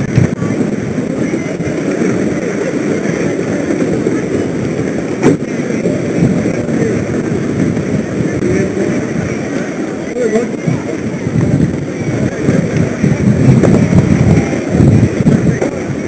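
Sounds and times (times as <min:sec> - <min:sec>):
people chattering: 0:00.0 - 0:16.0
steady background noise: 0:00.0 - 0:16.0.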